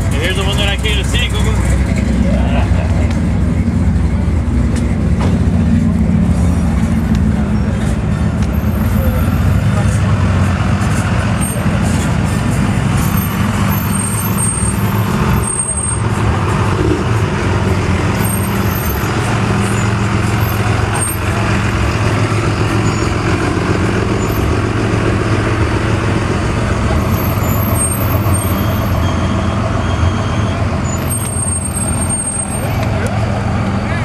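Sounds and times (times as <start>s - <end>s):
engine humming steadily: 0.0s - 34.0s
outdoor background noise: 0.0s - 34.0s.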